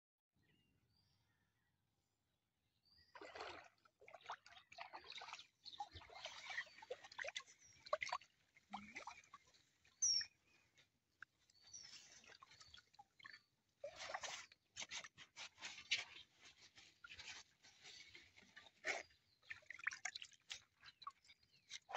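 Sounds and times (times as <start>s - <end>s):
water splashing and sloshing: 3.1s - 21.9s.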